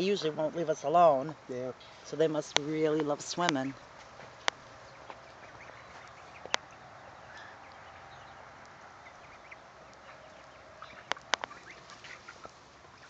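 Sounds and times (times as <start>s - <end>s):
goslings peeping faintly: 0.0s - 13.0s.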